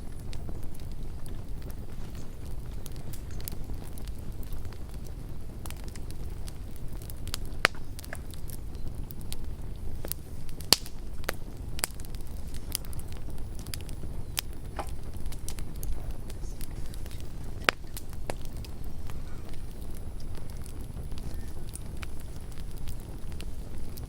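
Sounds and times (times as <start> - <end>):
campfire crackling: 0.0 - 24.0
steady low rumble: 0.0 - 24.0.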